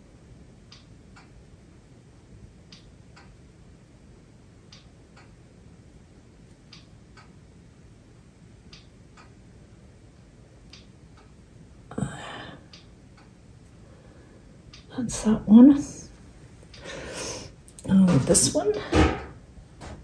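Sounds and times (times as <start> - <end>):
low room hum: 0.0 - 20.0
faint regular ticking: 0.5 - 18.1.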